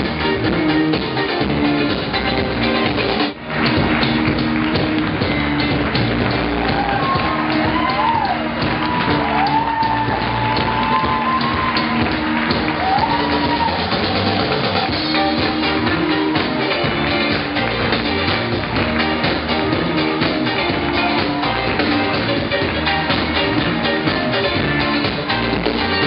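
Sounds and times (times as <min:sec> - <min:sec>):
rock music with drums and guitar: 0:00.0 - 0:26.0
wavering lead melody: 0:00.0 - 0:26.0.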